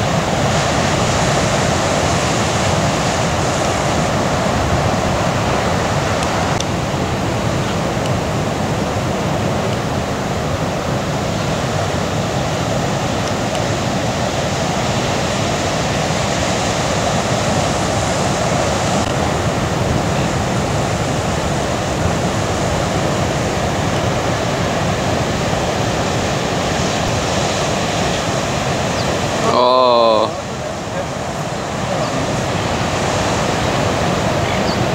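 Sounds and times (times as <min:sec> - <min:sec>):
ocean surf breaking: 0:00.0 - 0:34.9.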